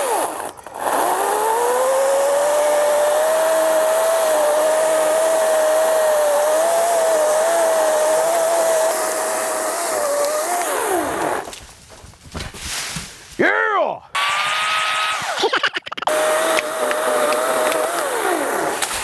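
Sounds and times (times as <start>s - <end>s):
electric chainsaw motor whine: 0.0s - 11.5s, 14.2s - 15.4s, 16.1s - 19.0s.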